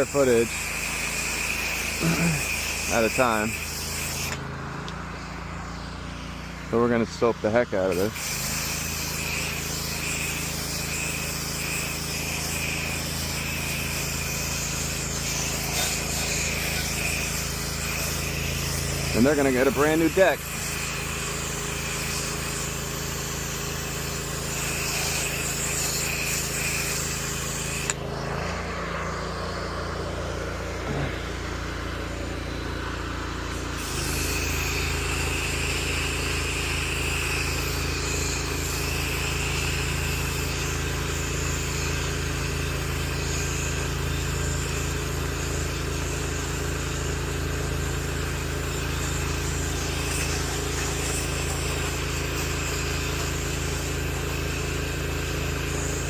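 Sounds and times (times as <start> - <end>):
water spray hissing: 0.0 - 4.4, 7.9 - 28.4, 33.5 - 56.0
pressure washer engine running: 0.0 - 56.0.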